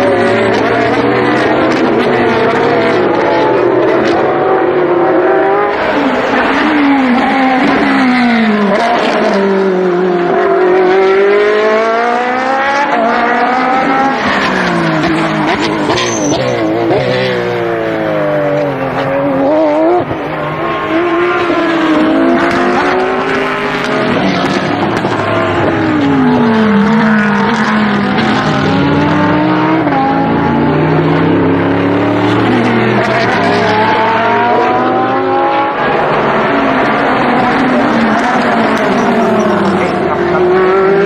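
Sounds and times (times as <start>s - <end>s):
race car engines passing: 0.0s - 41.0s.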